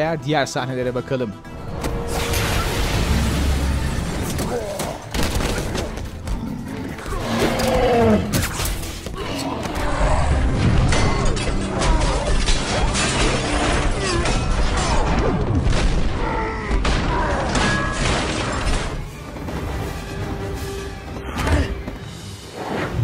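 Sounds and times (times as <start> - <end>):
film score music: 0.0 - 23.0.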